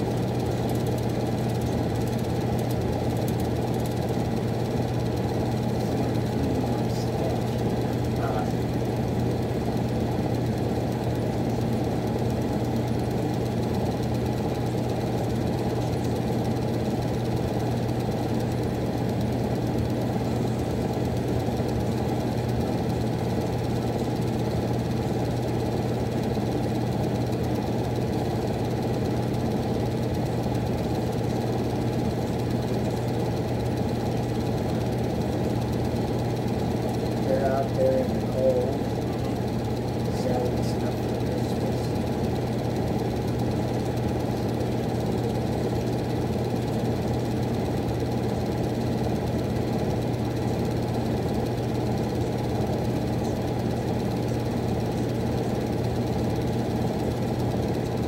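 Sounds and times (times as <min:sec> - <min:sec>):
furnace blower humming: 0:00.0 - 0:58.0.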